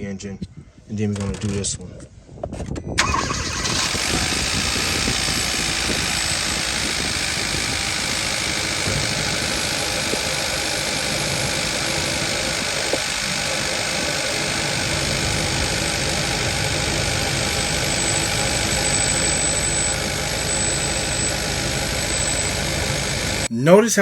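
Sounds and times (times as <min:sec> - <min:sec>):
car engine idling: 0:03.0 - 0:23.5
car engine starting: 0:03.0 - 0:23.5.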